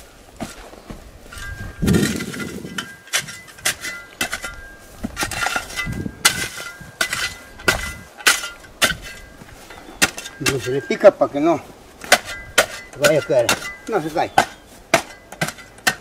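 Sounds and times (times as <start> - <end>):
shovel scraping stony soil: 0.0 - 11.1, 11.9 - 16.0.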